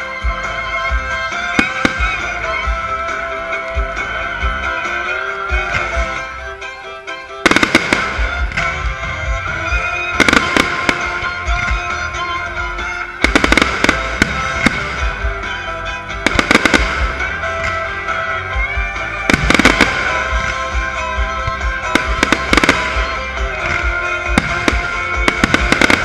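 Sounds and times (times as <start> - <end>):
fireworks bangs: 0.0 - 26.0
music with low beat: 0.0 - 26.0.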